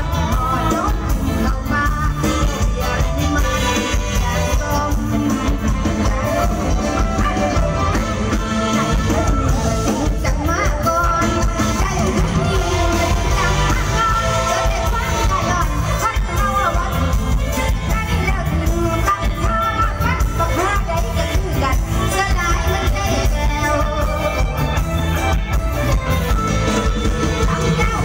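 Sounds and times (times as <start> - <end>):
person singing: 0.0 - 25.4
live band music with steady beat: 0.0 - 28.0.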